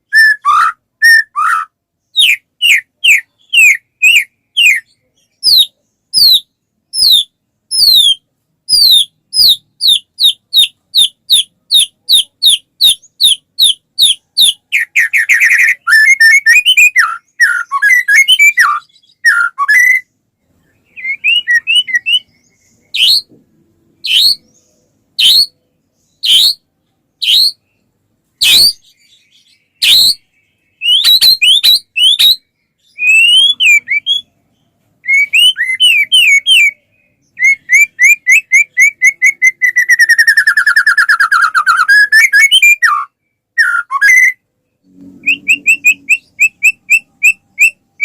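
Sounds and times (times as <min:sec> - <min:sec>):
bird singing whistles and trills: 0:00.0 - 0:23.4, 0:24.0 - 0:34.4, 0:35.0 - 0:48.0.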